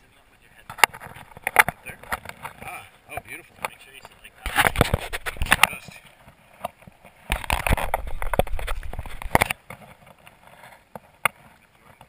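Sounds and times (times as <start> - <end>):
rumbling rustling microphone noise: 0.5 - 12.0.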